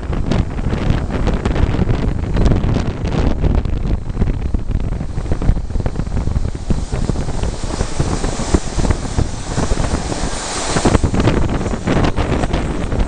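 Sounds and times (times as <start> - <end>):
deep train rumble: 0.0 - 13.0
wind buffeting microphone: 0.0 - 13.0.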